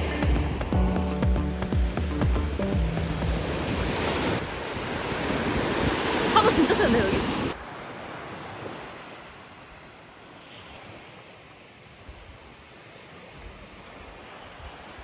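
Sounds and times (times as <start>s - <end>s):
sea surf: 0.0s - 15.0s.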